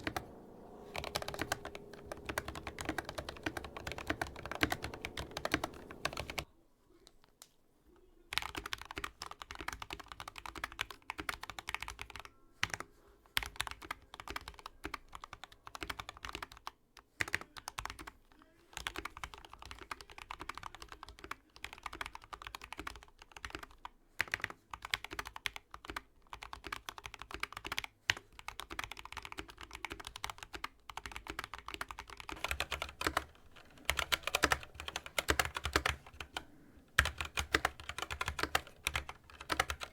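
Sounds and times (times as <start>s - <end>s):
typing on mechanical keyboard: 0.0s - 6.5s, 8.3s - 39.9s.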